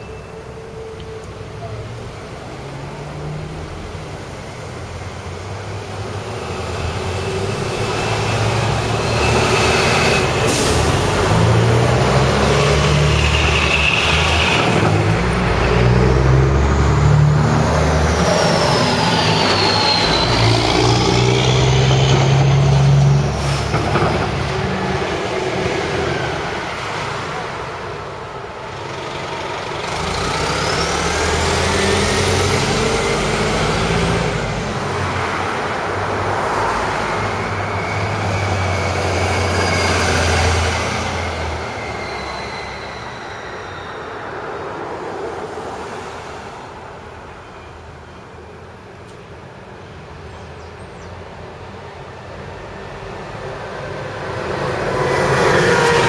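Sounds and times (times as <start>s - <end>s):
traffic: 0.0s - 56.0s.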